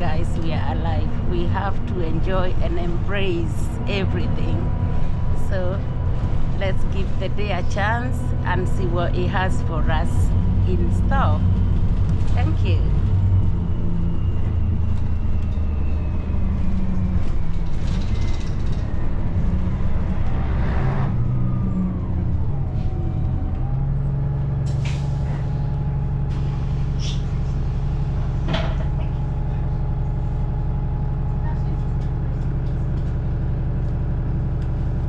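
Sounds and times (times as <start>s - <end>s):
bus engine whine: 0.0s - 35.0s
engine humming at rest: 0.0s - 35.0s.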